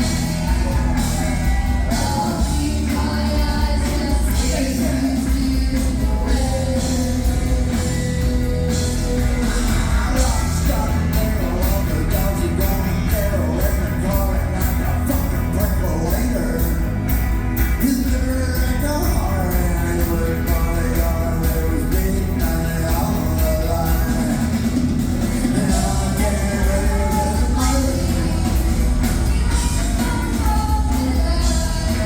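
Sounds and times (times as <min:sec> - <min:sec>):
drum and cymbal beat: 0:00.0 - 0:32.0
live rock band playing: 0:00.0 - 0:32.0
person singing: 0:00.0 - 0:32.0.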